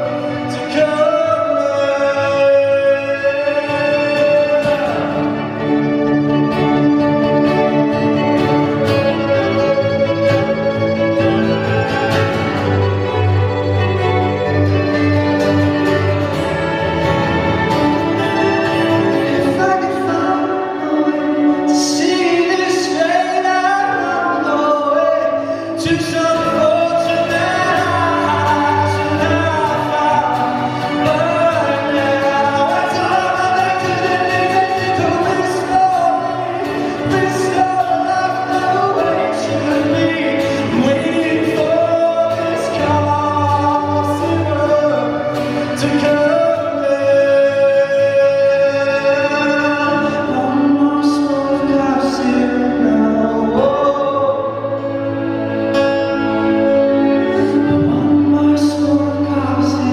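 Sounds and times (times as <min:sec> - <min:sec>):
man singing with band: 0:00.0 - 0:59.9.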